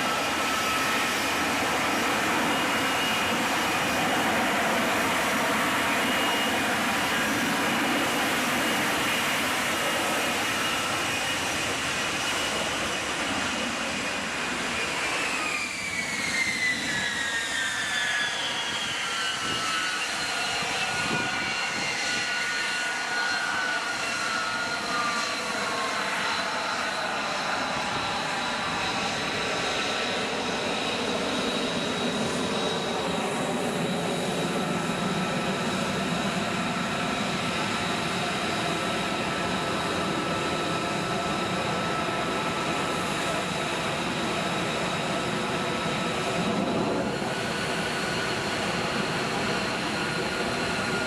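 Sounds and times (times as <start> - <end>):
jet fighter engine rushing: 0.0 - 51.0.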